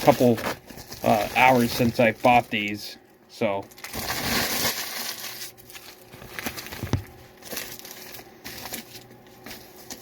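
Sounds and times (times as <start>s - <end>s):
paper wrapping crinkling: 0.0s - 2.9s, 3.6s - 10.0s.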